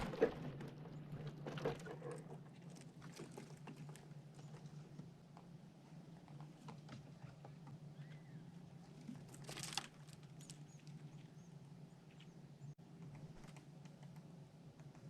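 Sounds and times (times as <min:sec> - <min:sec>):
low steady hum: 0:00.0 - 0:15.0
small animal ticks and scratches: 0:00.8 - 0:15.0.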